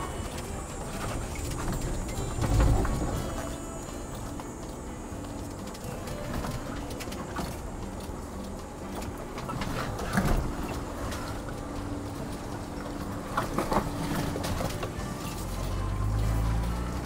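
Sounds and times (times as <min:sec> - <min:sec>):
off-road engine humming: 0:00.0 - 0:17.0
tyre and chassis rumble: 0:00.0 - 0:17.0.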